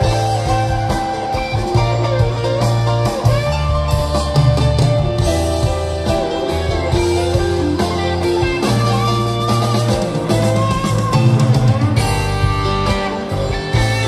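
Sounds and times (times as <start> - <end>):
rock music with guitar and drums: 0.0 - 14.0.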